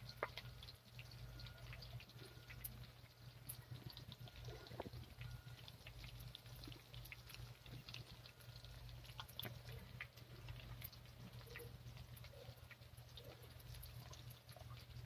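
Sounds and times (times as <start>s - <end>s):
meat sizzling in oil: 0.0s - 15.0s
steady low hum: 0.0s - 15.0s.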